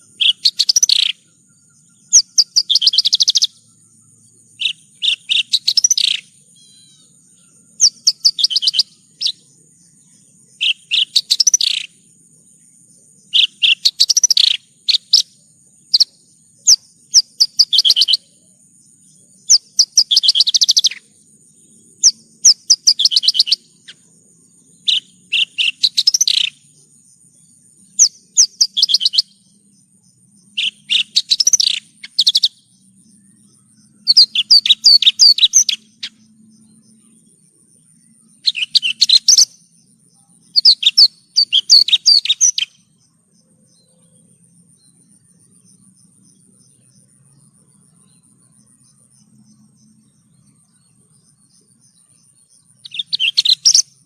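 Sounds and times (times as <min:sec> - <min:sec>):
bird chirps and trills: 0:00.0 - 0:54.0.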